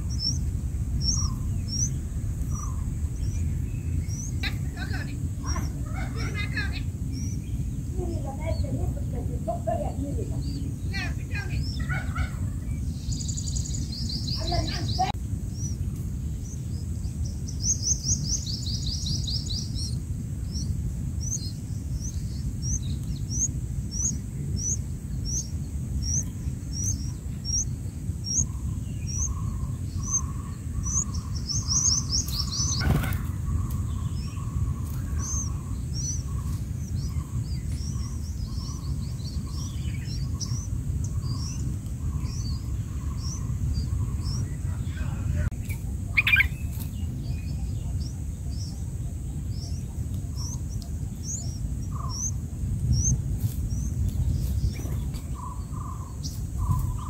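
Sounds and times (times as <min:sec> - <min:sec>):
nestlings begging chirps: 0:00.0 - 0:57.0
steady low rumble: 0:00.0 - 0:57.0.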